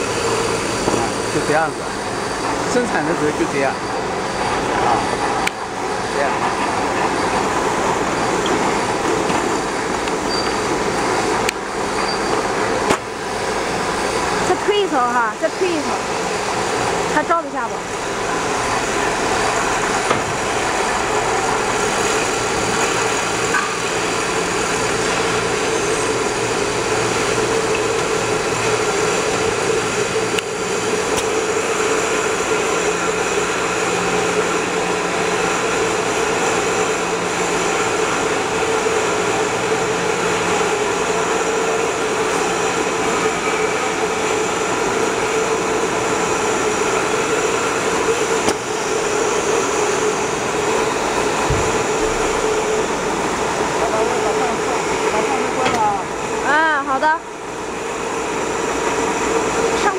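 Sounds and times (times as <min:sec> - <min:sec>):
canning line machine noise: 0:00.0 - 0:59.9.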